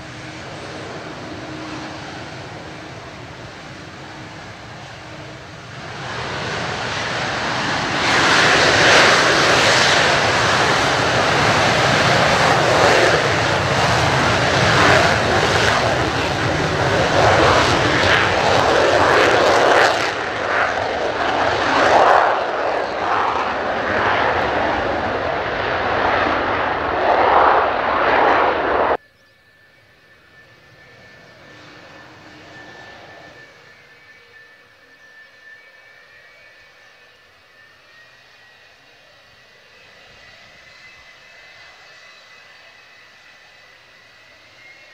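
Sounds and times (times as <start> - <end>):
loud rumbling jet noise: 0.0 - 29.0, 29.6 - 44.9
jet whine with high tone: 0.0 - 44.9.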